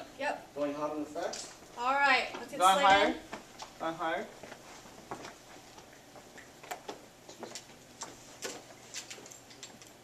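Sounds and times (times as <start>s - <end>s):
low room hiss: 0.0s - 10.0s.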